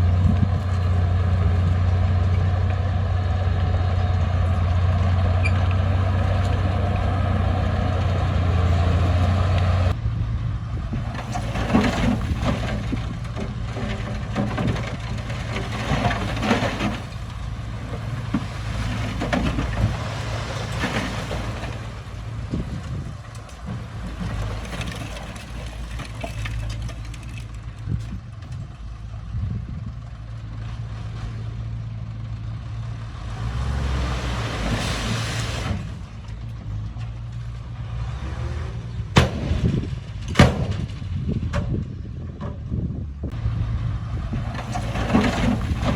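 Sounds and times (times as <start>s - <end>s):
diesel engines of earthmoving machines: 0.0s - 45.9s.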